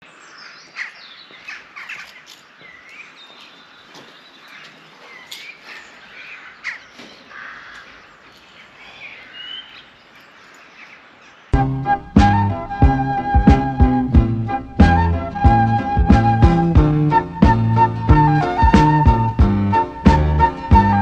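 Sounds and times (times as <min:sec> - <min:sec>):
birds chirping and calling: 0:00.0 - 0:21.0.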